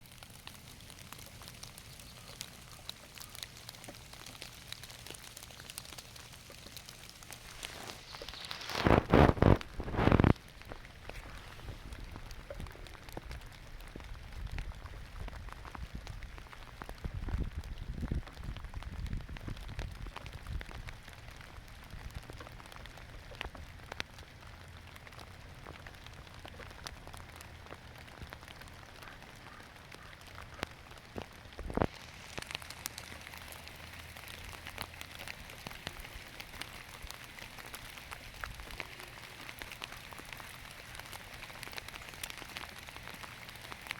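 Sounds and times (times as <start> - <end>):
rain pattering on leaves: 0.0 - 43.9.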